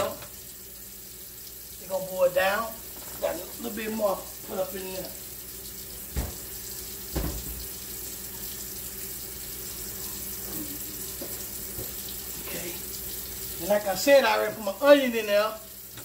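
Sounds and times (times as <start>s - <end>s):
water running from tap: 0.0s - 16.0s.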